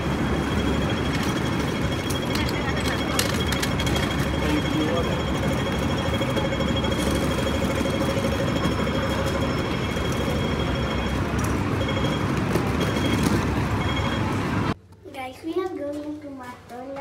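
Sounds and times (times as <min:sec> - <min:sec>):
rumble of street traffic: 0:00.0 - 0:17.0.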